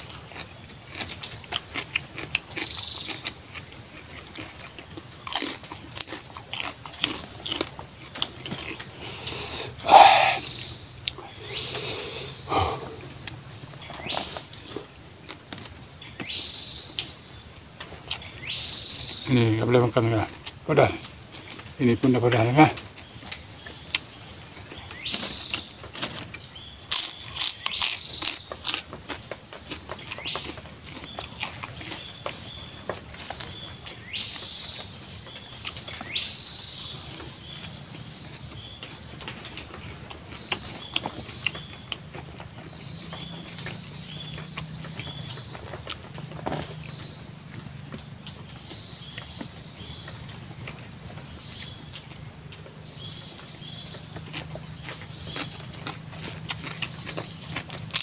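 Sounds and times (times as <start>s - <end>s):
chewing food: 0.0s - 58.0s
high insect drone: 0.0s - 58.0s
small bird chirping: 0.0s - 58.0s.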